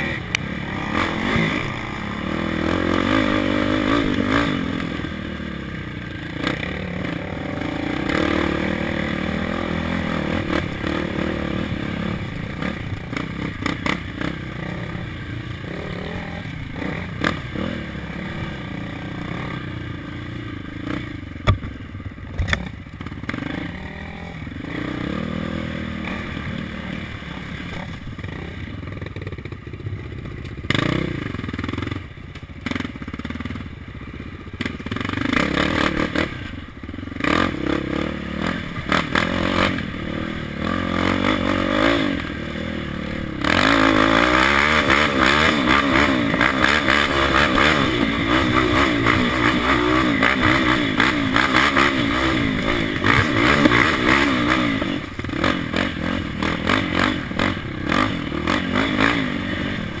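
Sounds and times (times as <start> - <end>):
quad engine racing: 0.0 - 60.0.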